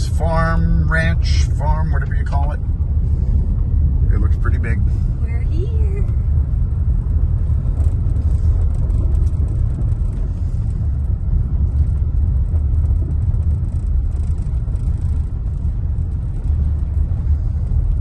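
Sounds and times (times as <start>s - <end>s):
vehicle rumble from inside: 0.0s - 18.0s.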